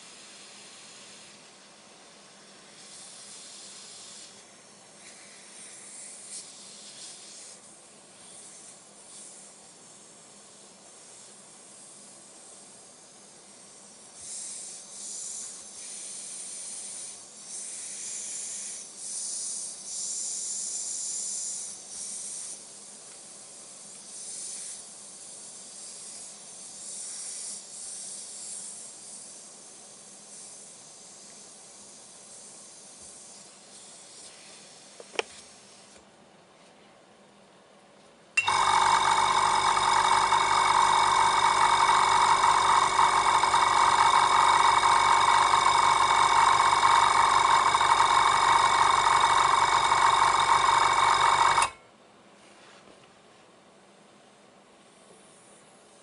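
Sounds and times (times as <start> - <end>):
compressed air hissing: 0.0 - 1.6, 2.4 - 36.0, 38.4 - 51.8.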